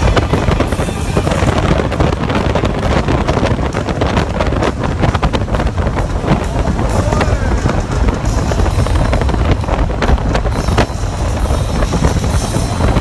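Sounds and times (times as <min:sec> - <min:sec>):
motorcycle engine cruising: 0:00.0 - 0:13.0
wind buffeting microphone: 0:00.0 - 0:13.0.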